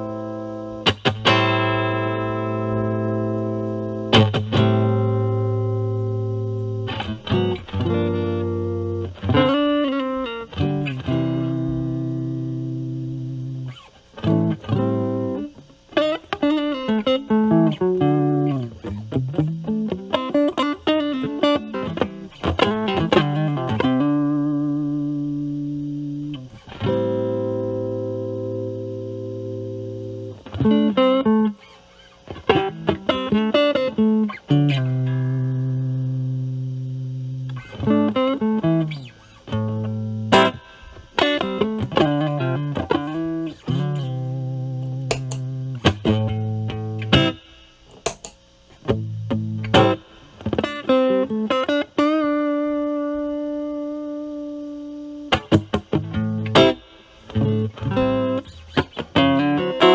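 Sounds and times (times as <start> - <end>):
distorted electric guitar: 0.0 - 59.9.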